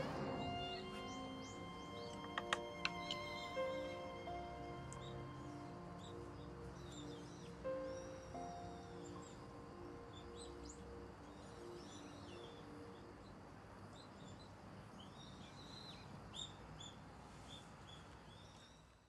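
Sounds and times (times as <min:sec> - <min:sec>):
faint background hiss: 0:00.0 - 0:19.0
small birds chirping: 0:00.0 - 0:19.0
soft held music notes: 0:00.0 - 0:19.0.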